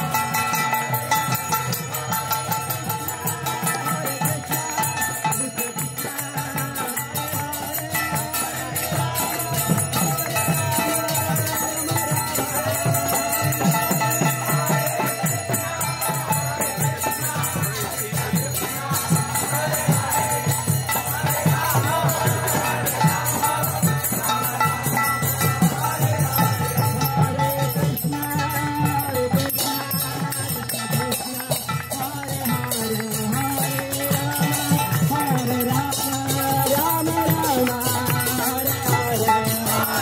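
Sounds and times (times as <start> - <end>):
drum beat: 0.0 - 40.0
jingling hand cymbals: 0.0 - 40.0
voices chanting: 0.0 - 40.0.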